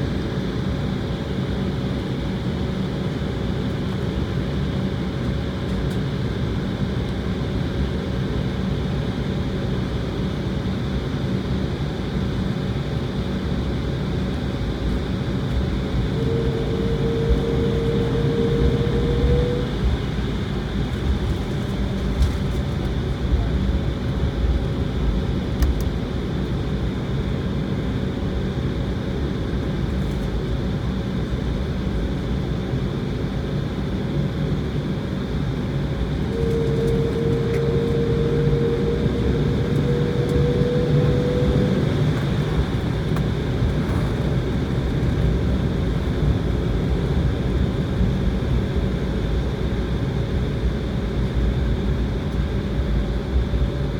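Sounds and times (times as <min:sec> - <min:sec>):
jet engine rumble and whine: 0:00.0 - 0:53.9.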